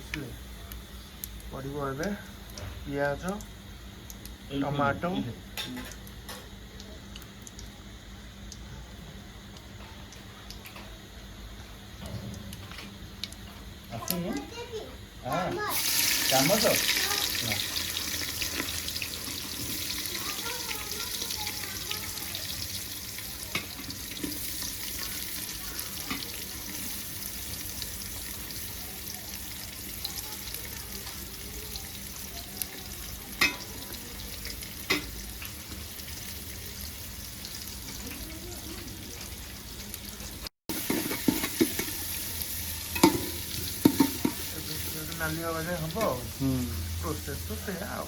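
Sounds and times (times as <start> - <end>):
vegetables sizzling in oil: 9.3 - 48.0.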